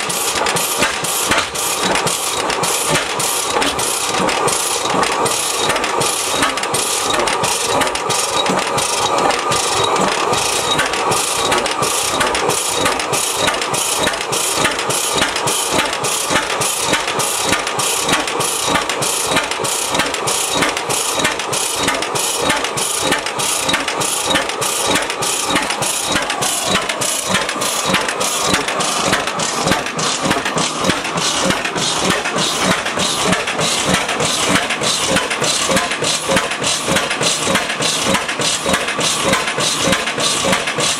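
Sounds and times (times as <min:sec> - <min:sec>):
oilfield engine running: 0:00.0 - 0:40.9.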